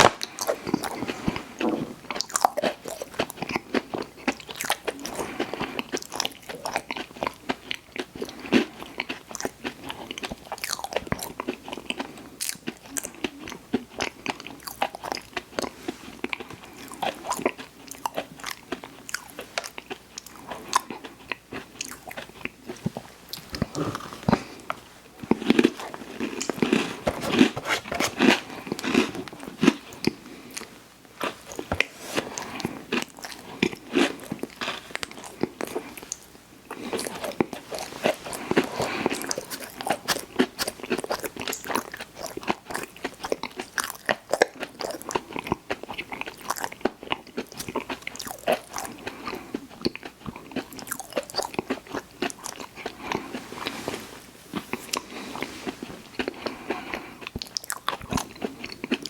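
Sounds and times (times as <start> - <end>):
person chewing crunchy sweets: 0.0 - 59.0.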